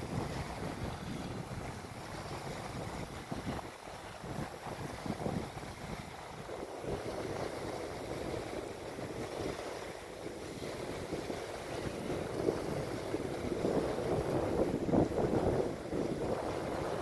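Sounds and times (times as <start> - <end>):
small waves rushing: 0.0 - 17.0
wind buffeting microphone: 0.0 - 17.0.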